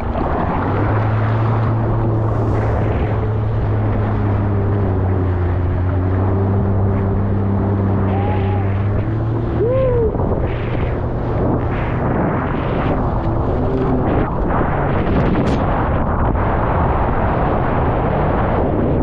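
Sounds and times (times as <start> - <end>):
rushing water: 0.0 - 19.0
wind noise: 0.0 - 19.0.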